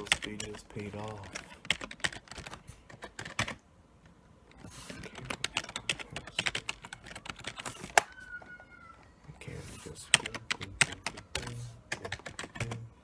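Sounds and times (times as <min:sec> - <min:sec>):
computer keyboard typing: 0:00.0 - 0:03.6, 0:04.5 - 0:13.0.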